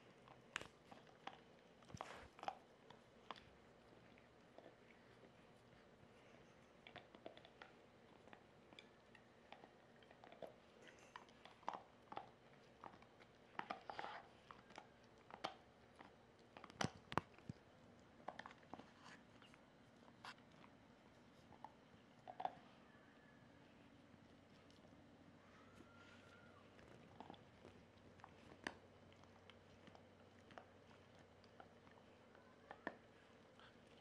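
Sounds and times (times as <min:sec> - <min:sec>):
dog gnawing a bone: 0:00.0 - 0:22.6, 0:26.7 - 0:34.0.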